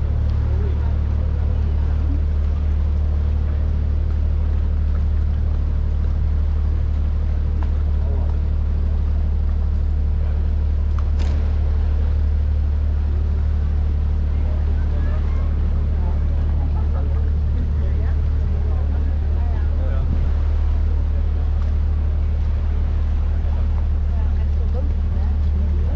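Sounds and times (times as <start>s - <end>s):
boat motor droning: 0.0s - 25.9s.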